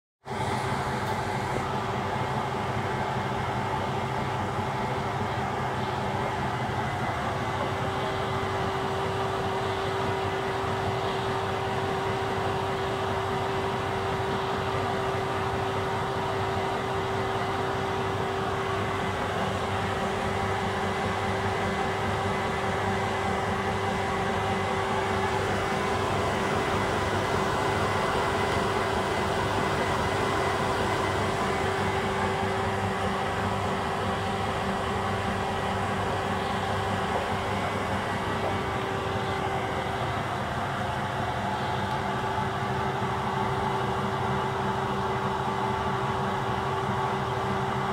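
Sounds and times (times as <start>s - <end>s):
washing machine spinning: 0.2s - 47.9s.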